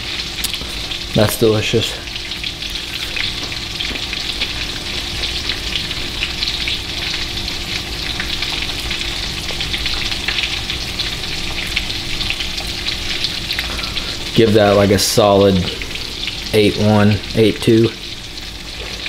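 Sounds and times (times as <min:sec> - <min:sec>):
fish frying in hot oil: 0:00.0 - 0:19.0.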